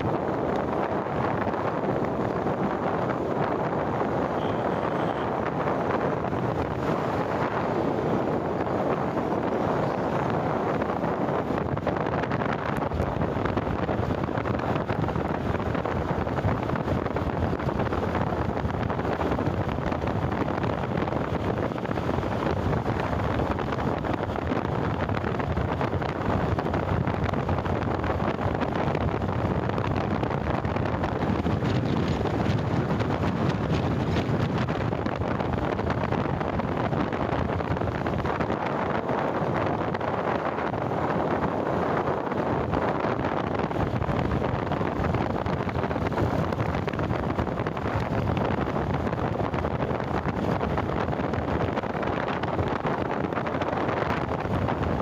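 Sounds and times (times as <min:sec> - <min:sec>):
road noise: 0:00.0 - 0:55.0
wind rushing over microphone: 0:00.0 - 0:55.0.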